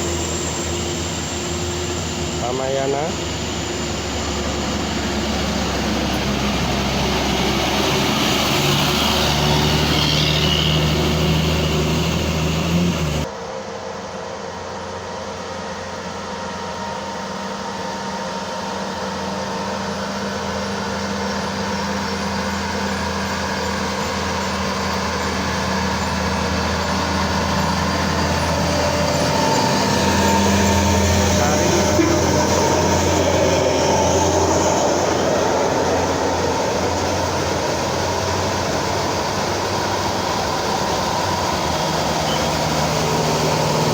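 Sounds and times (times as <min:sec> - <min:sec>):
engine approaching: 0:00.0 - 0:13.5, 0:14.5 - 0:43.9
diesel bus engine climbing: 0:00.0 - 0:43.9.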